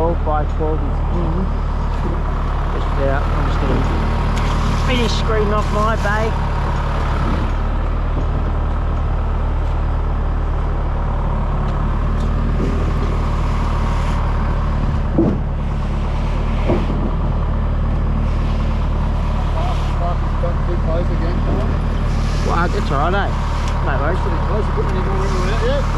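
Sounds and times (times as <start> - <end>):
heavy diesel engine droning: 0.0 - 25.9.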